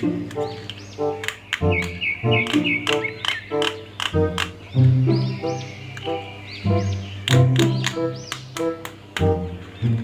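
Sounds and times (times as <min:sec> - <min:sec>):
bird-like chirping effects: 0:00.0 - 0:10.0
upbeat background music: 0:00.0 - 0:10.0.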